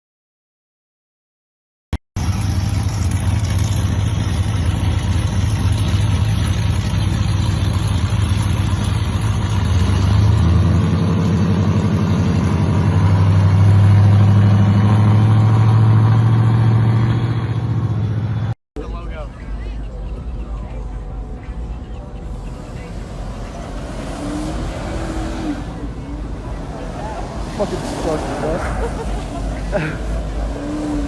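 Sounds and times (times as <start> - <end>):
pickup truck engine running: 2.2 - 31.0.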